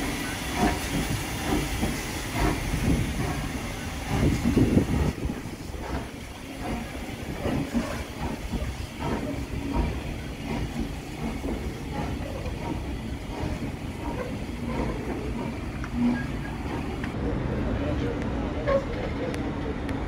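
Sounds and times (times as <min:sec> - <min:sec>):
steam hissing: 0:00.0 - 0:17.2
train wheels clicking and knocking: 0:00.0 - 0:17.2
rumble of rolling coaches: 0:00.0 - 0:20.0.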